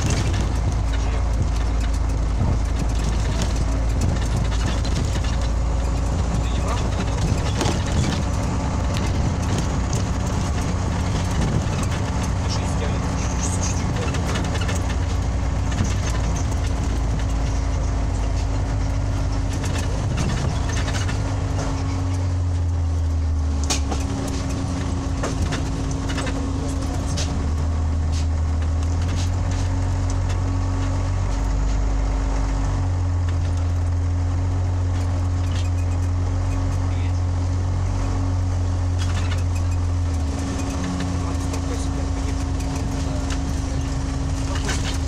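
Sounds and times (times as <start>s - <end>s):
body clicks and rattles: 0.0s - 37.5s, 38.3s - 45.0s
bus diesel engine droning: 0.0s - 45.0s.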